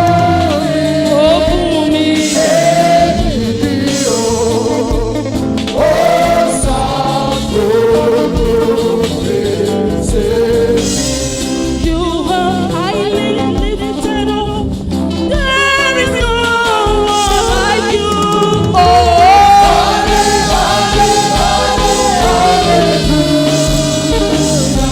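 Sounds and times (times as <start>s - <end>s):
backing band playing a steady beat: 0.0s - 24.9s
group singing gospel music: 0.0s - 24.9s.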